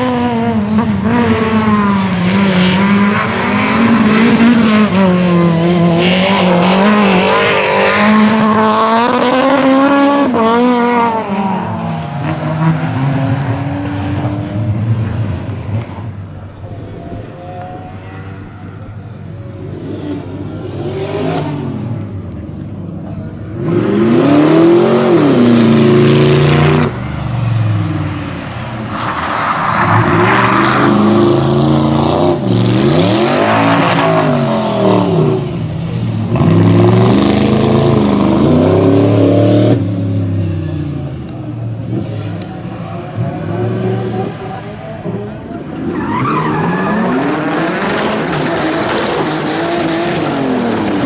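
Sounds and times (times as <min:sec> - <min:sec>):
rally car engine revving: 0:00.0 - 0:51.0.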